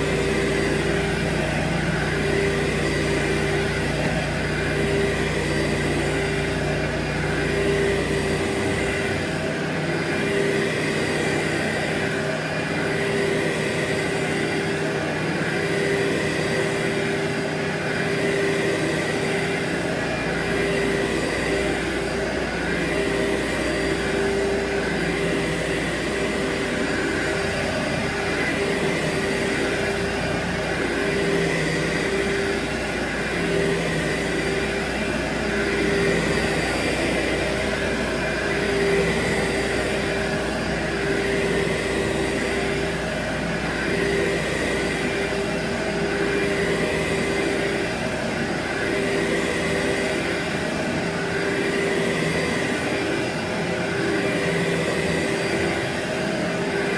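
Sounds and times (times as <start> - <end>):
carpet cleaning machine running: 0.0 - 56.9.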